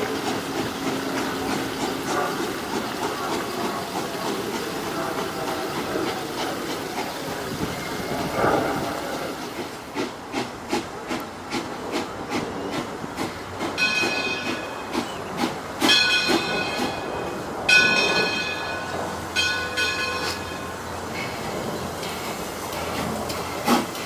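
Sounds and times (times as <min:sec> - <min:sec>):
steam hissing: 0:00.0 - 0:24.0
steam locomotive chugging: 0:00.0 - 0:24.0.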